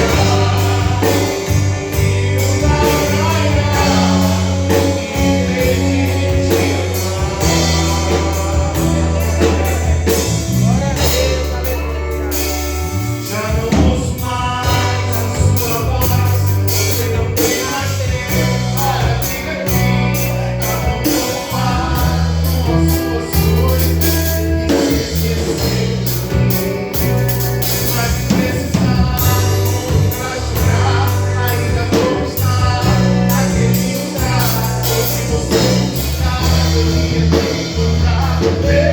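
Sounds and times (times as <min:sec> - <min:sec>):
gospel band playing: 0:00.0 - 0:38.9
person singing: 0:00.0 - 0:38.9.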